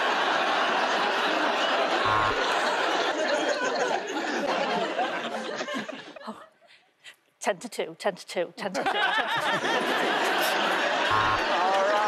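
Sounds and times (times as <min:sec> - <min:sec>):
audience laughing: 0:00.0 - 0:06.4, 0:08.8 - 0:12.0.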